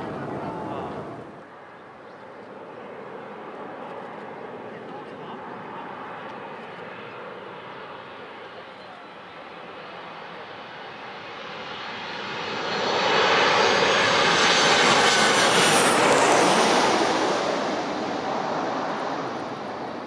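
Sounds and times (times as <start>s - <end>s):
airliner passing overhead: 0.0s - 20.0s.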